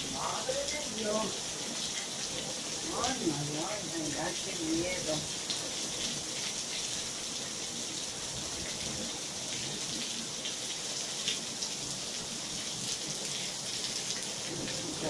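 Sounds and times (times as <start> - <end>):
heavy rain on a patio: 0.0 - 15.0.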